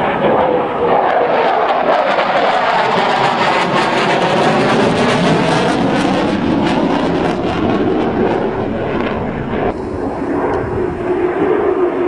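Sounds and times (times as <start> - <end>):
fighter jet passing overhead: 0.0 - 12.0.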